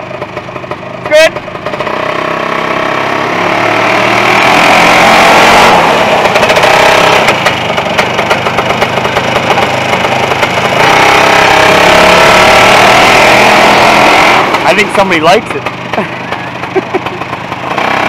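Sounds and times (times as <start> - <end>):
snowmobile two-stroke engine: 0.0 - 18.0.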